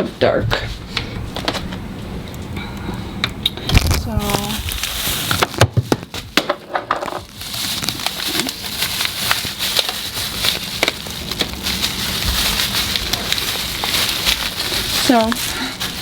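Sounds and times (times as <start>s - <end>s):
food wrapping crackling and rustling: 0.6s - 16.0s.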